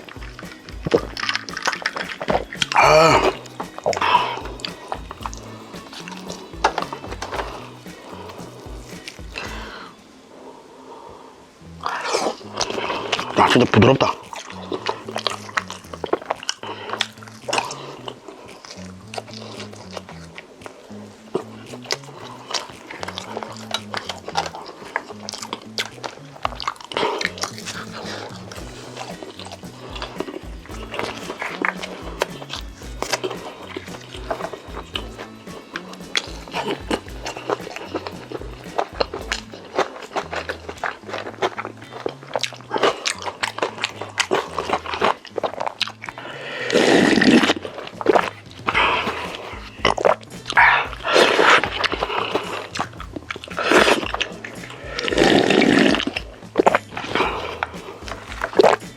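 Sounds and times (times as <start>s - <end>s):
background music with low notes: 0.0s - 58.9s.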